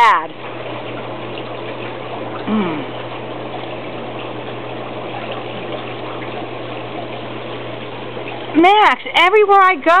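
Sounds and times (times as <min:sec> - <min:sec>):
low pump hum: 0:00.0 - 0:10.0
spa water churning: 0:00.0 - 0:10.0.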